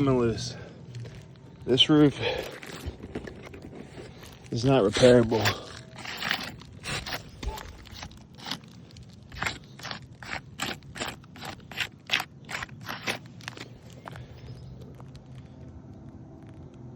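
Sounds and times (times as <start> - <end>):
scraping asphalt roof shingles: 0.0 - 16.9.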